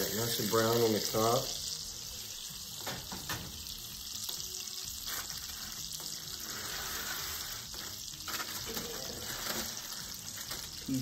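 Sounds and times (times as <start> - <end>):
baked dishes sizzling: 0.0 - 11.0.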